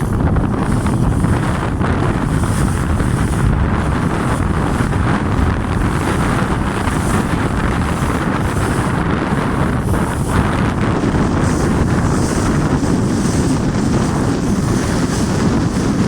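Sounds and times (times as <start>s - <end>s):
water rushing past hull: 0.0s - 16.0s
wind buffeting microphone: 0.0s - 16.0s.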